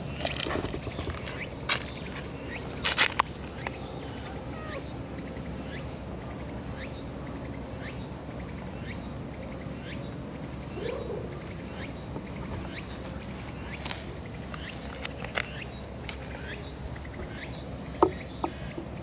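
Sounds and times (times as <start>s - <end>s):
bird chirps: 0.0s - 19.0s
outdoor background noise: 0.0s - 19.0s.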